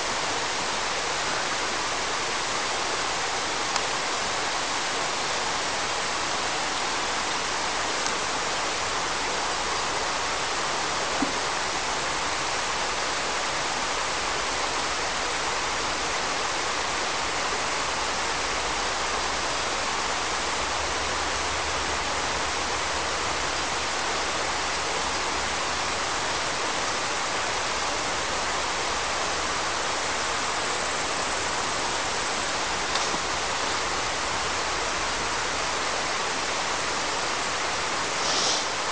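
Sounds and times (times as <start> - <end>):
river water rushing over stones: 0.0 - 38.9.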